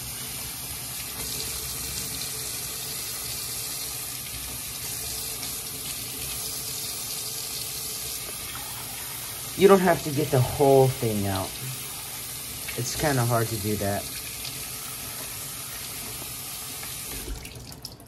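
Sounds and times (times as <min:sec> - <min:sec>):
faucet running into metal sink: 0:00.1 - 0:18.0.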